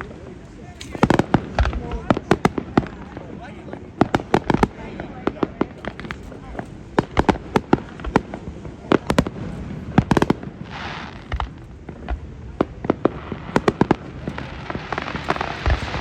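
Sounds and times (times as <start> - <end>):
crackling hiss of sparks: 0.0 - 4.8, 5.6 - 16.0
firework shells booming: 0.6 - 16.0.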